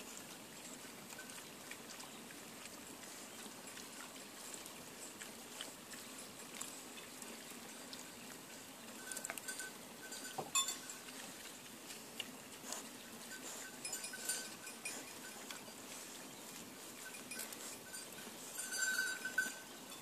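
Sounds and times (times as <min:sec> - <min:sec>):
piglets crunching and tearing grass: 0:00.0 - 0:09.9, 0:10.7 - 0:20.0.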